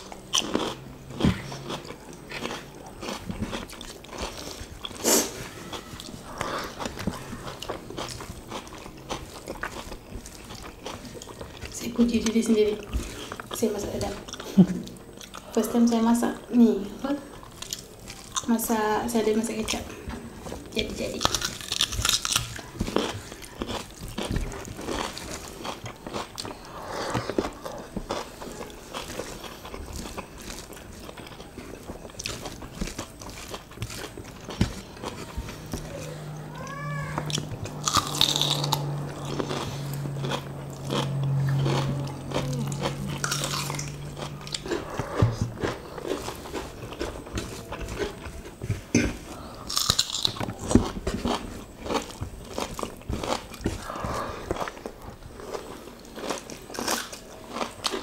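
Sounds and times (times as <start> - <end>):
chewing and wet mouth sounds: 0.0 - 16.3, 17.3 - 58.0
low steady hum: 0.0 - 58.0.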